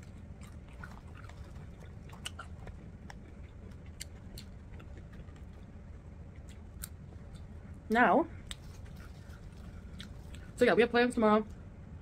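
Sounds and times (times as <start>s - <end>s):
person chewing fries: 0.0s - 7.7s, 8.4s - 10.6s
low steady hum: 0.0s - 12.0s.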